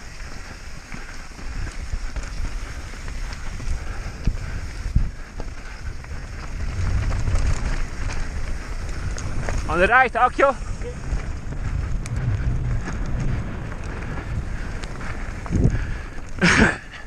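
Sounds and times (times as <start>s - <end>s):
bike tyres rolling on rough ground: 0.0s - 17.0s
stones and bike rattling: 0.0s - 17.0s
wind buffeting microphone: 0.0s - 17.0s.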